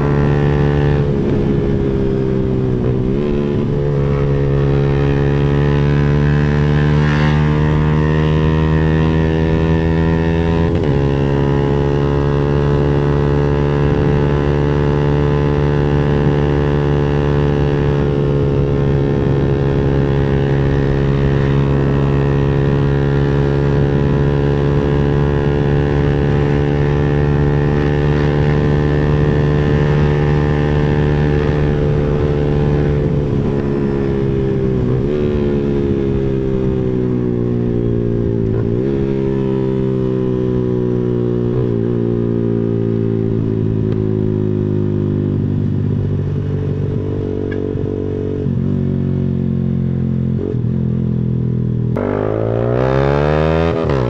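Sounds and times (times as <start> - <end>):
motorcycle exhaust cruising: 0.0 - 54.0.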